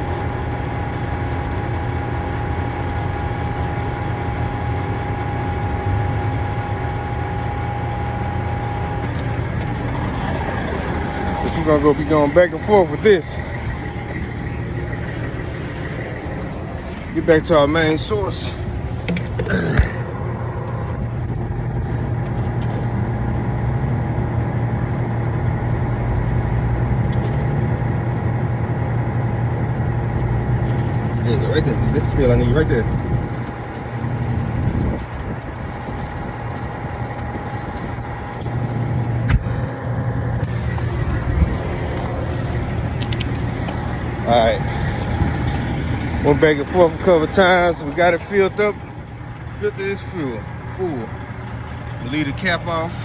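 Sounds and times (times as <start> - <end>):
heavy engine idling: 0.0 - 53.0
steady whine: 0.0 - 53.0.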